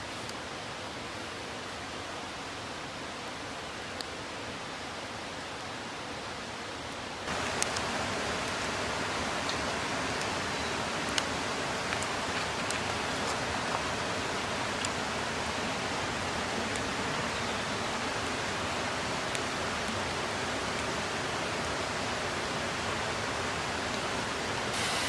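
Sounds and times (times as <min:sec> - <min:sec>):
mountain stream rushing: 0:00.0 - 0:25.0.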